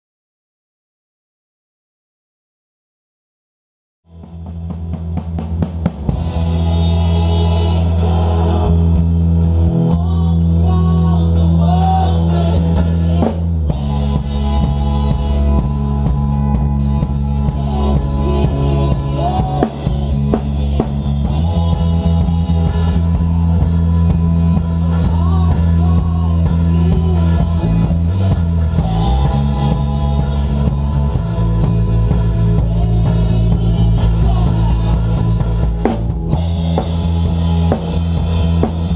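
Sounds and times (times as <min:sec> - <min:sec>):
sustained bass notes: 0:04.0 - 0:38.9
drum kit: 0:04.1 - 0:38.9
live band playing: 0:04.1 - 0:38.9
person singing: 0:06.1 - 0:37.8.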